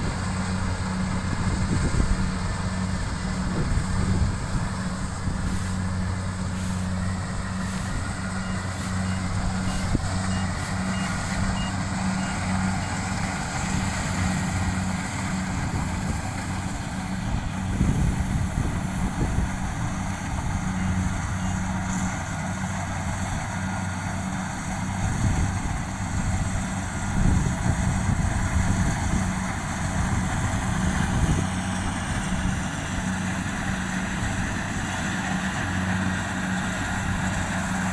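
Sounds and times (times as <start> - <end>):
heavy engine running: 0.0 - 37.9.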